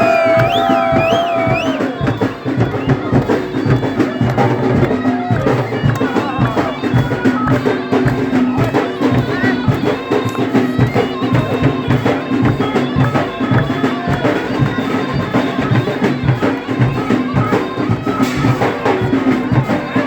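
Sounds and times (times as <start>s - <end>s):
folk melody: 0.0s - 20.0s
rhythmic drumming: 0.0s - 20.0s.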